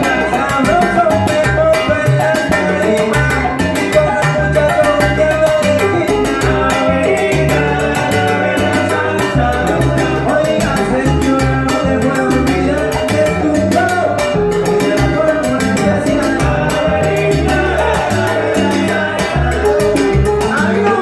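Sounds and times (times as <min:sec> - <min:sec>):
latin percussion: 0:00.0 - 0:21.0
salsa band playing: 0:00.0 - 0:21.0
stepping bass line: 0:00.0 - 0:21.0.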